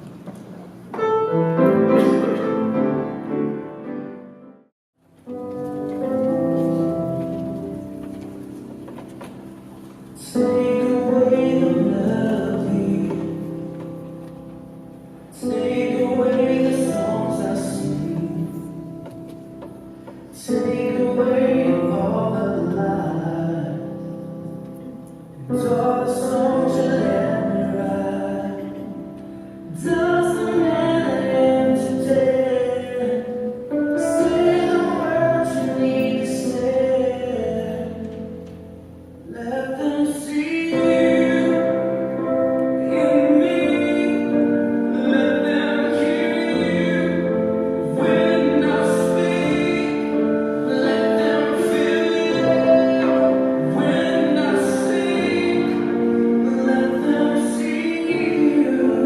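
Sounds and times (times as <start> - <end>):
musical accompaniment: 0.0 - 59.0.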